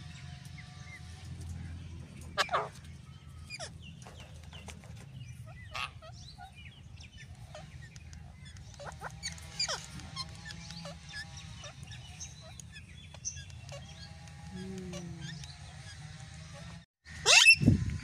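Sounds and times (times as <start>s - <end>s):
low background hum: 0.0s - 16.8s
parakeets squawking: 0.0s - 17.6s.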